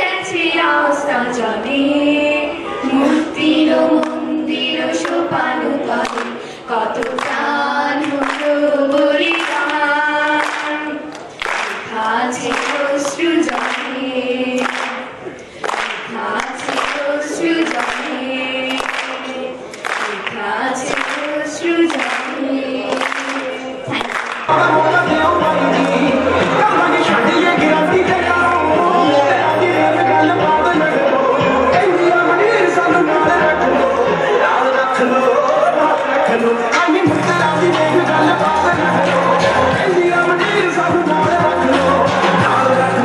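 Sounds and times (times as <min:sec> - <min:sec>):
group singing unaccompanied: 0:00.0 - 0:43.0.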